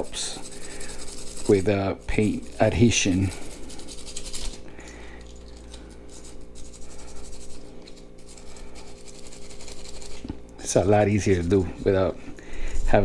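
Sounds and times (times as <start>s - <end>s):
wire brush scratching metal: 0.0s - 4.7s, 5.4s - 12.2s.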